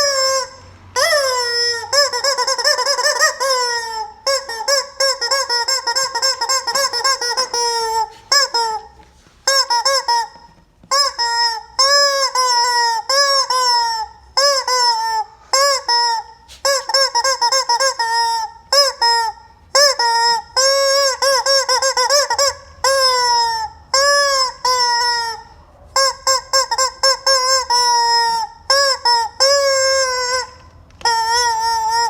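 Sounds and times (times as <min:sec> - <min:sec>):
rubber chicken toy squeaking: 0:00.0 - 0:32.0.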